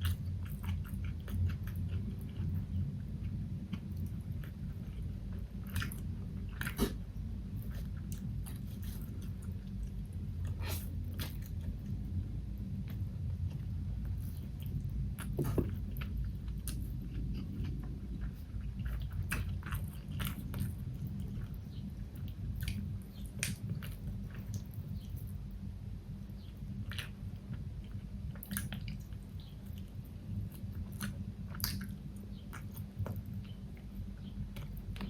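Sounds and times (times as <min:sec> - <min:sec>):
chewing and biting food: 0:00.0 - 0:12.2, 0:12.8 - 0:25.4, 0:26.5 - 0:35.0
low hum: 0:00.0 - 0:35.0.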